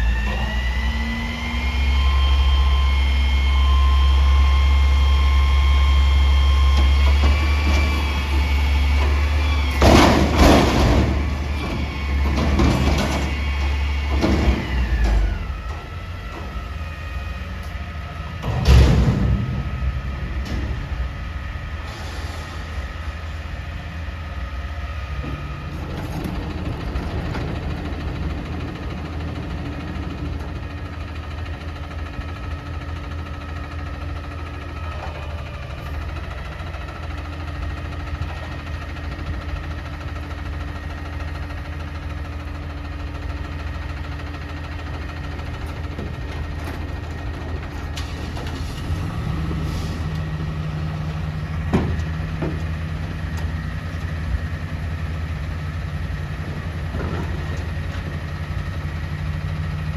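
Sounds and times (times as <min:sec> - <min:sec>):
garbage truck engine running: 0:00.0 - 0:59.9.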